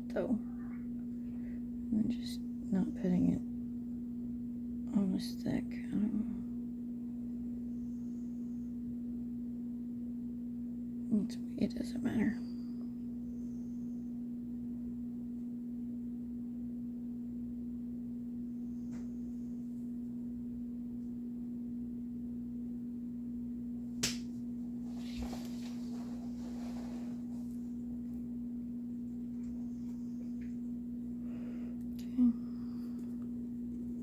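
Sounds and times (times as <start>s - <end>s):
steady low tonal hum: 0.0s - 34.0s.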